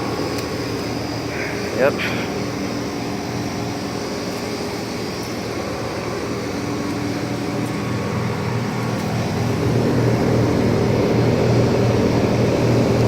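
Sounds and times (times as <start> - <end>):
compressor hum: 0.0 - 13.0
fan rushing: 0.0 - 13.0.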